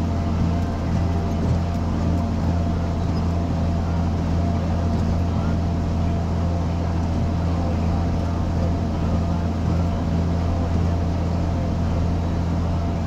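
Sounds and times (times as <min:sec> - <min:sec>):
tractor engine low drone: 0:00.0 - 0:13.0.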